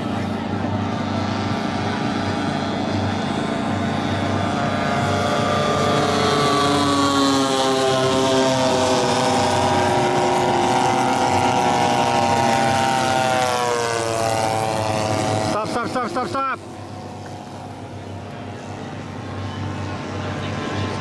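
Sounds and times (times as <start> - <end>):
model plane engines droning: 0.0 - 21.0.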